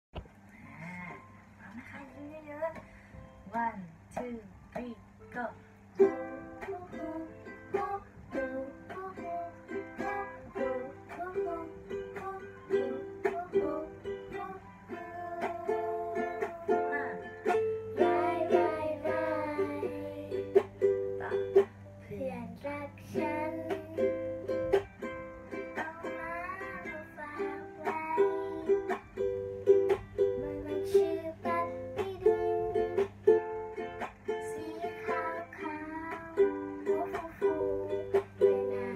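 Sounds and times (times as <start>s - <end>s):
girl singing: 1.8s - 38.9s
ukulele strumming: 2.3s - 38.9s.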